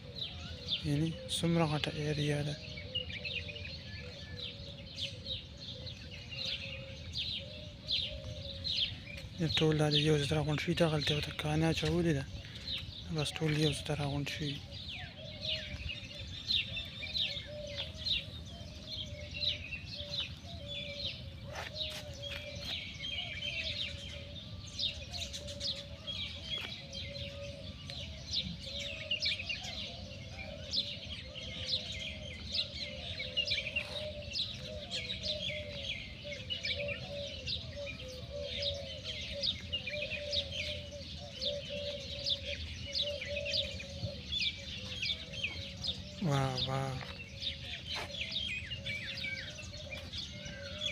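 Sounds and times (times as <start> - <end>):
lower bird calls chattering: 0.0 - 50.9
small birds chirping: 0.0 - 50.9.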